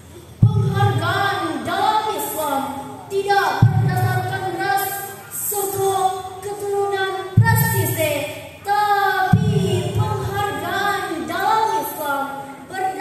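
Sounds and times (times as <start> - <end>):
girl singing unaccompanied: 0.4 - 13.0.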